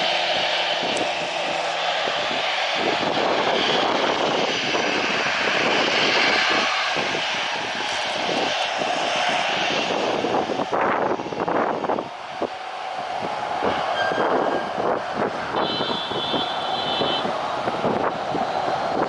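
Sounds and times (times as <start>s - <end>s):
jet airliner landing: 0.0s - 19.0s.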